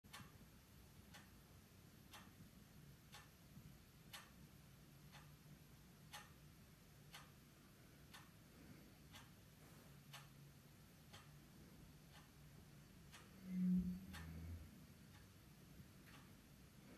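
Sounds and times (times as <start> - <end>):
low steady hum: 0.1 - 16.9
regular ticking: 0.1 - 16.9.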